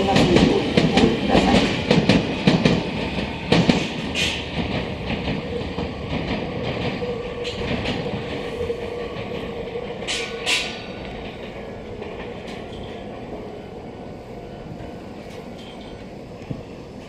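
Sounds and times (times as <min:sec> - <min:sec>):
train wheels clicking over rail joints: 0:00.0 - 0:13.5, 0:14.7 - 0:17.0.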